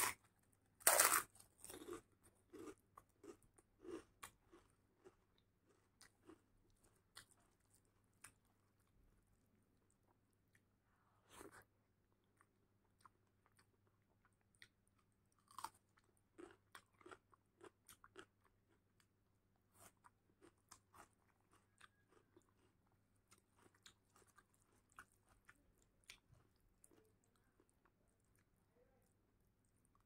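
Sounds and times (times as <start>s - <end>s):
close chewing food: 0.0s - 9.1s, 9.8s - 30.0s.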